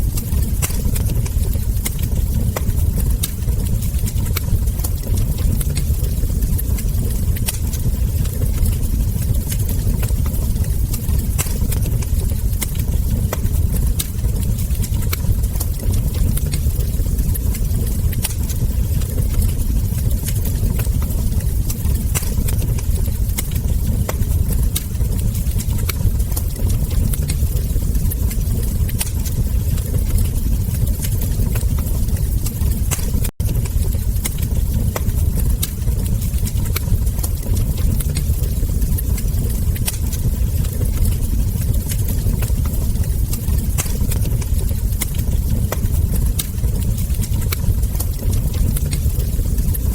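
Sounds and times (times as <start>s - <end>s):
low rumble: 0.0s - 49.9s
wood fire crackling: 0.0s - 49.9s.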